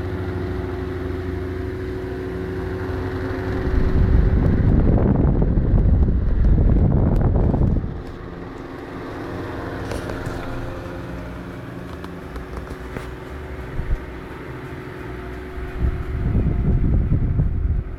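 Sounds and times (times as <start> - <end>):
airflow rumble on microphone: 0.0 - 17.9
electric fan motor hum: 0.0 - 17.9
fan blades whooshing: 0.0 - 17.9.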